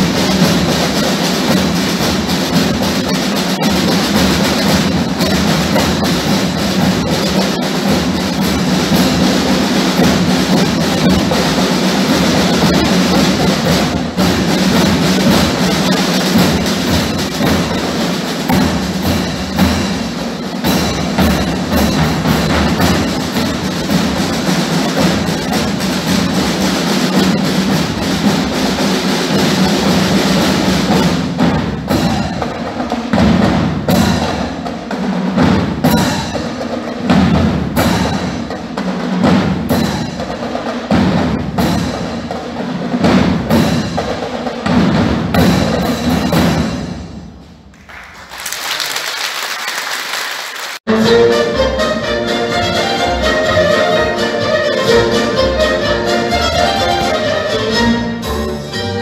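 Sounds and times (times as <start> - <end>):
snare and bass drums: 0.0 - 47.9, 52.3 - 58.6
musical backing: 0.0 - 48.9, 50.9 - 59.0.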